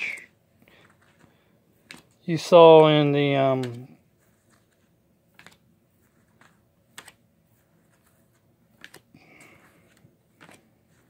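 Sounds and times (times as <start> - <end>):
cards sliding rustle: 0.0 - 11.0
cardboard photo cards clicking: 0.7 - 2.9, 3.5 - 7.2, 7.8 - 11.0.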